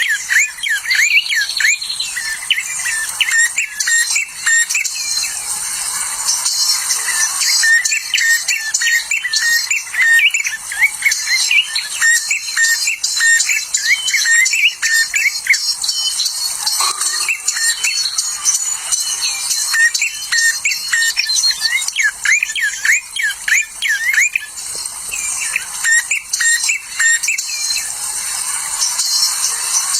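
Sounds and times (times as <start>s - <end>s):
high thin twittering: 0.0s - 28.0s
small birds chirping: 0.0s - 29.9s.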